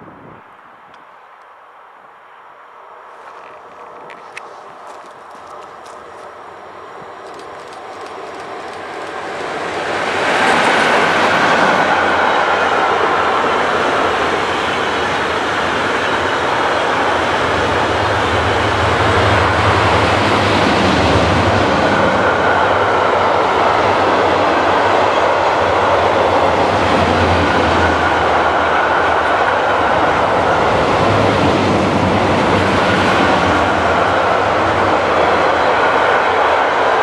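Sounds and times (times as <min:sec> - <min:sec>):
train wheels rumbling on rail: 0:02.9 - 0:37.0.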